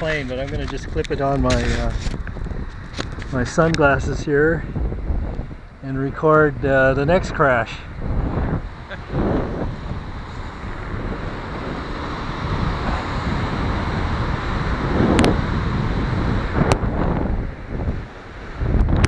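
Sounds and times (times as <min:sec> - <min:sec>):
surf washing: 0:00.0 - 0:19.0
wind buffeting microphone: 0:00.0 - 0:19.0.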